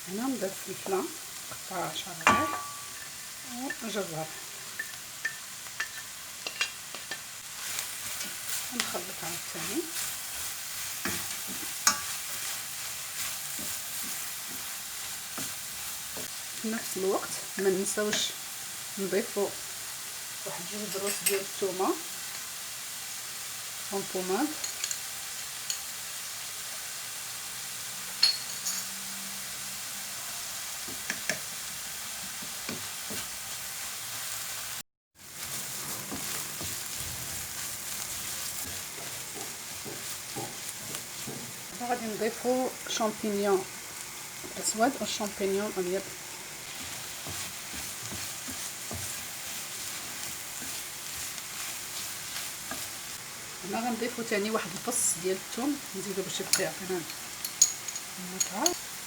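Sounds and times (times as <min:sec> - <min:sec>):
stirring in a pan: 0:00.0 - 0:27.0, 0:30.6 - 0:59.0
vegetables sizzling in a frying pan: 0:00.0 - 0:59.0.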